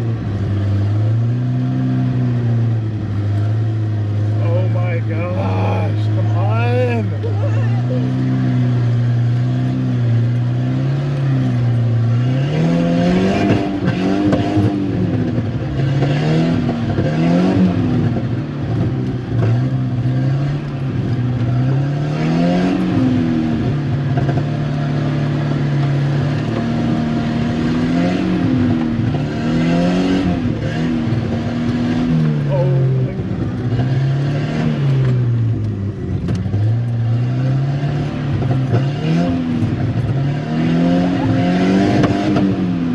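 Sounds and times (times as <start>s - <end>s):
car engine revving hard: 0.0s - 42.9s.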